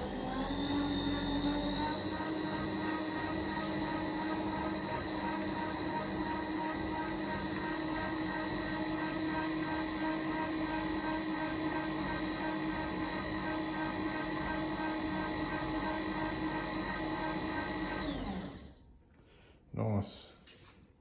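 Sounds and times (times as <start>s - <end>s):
milling machine motor whine: 0.0s - 18.7s.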